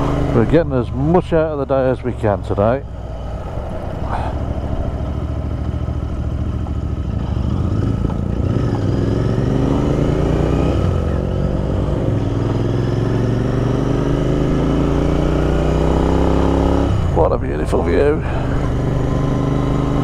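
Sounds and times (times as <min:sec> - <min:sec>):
motorcycle engine accelerating: 0:00.0 - 0:20.0
wind and road noise: 0:00.0 - 0:20.0.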